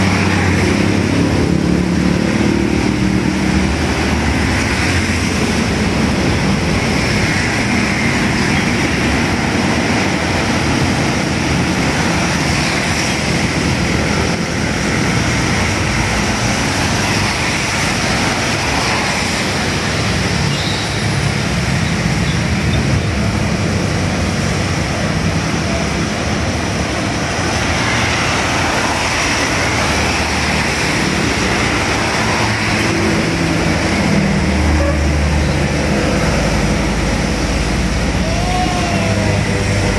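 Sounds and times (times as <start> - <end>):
passing motorcycles and buses: 0.0 - 39.9
tyres hissing on wet road: 0.0 - 39.9.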